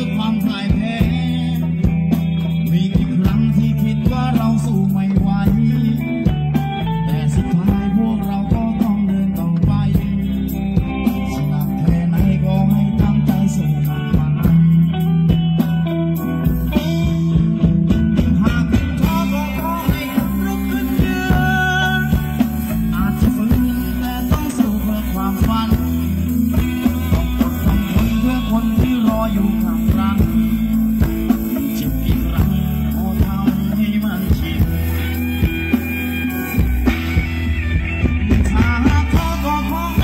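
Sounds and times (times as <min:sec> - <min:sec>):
electric guitar: 0:00.0 - 0:40.0
live band music: 0:00.0 - 0:40.0.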